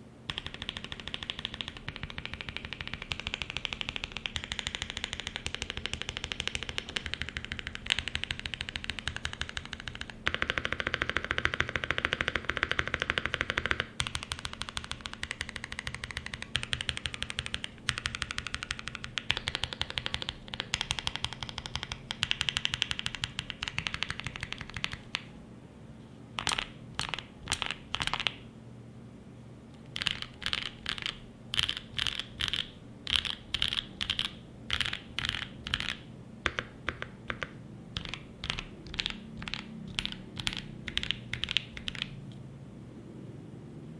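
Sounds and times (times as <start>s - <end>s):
mechanical keyboard typing: 0.3s - 25.3s, 26.4s - 28.4s, 29.8s - 42.2s.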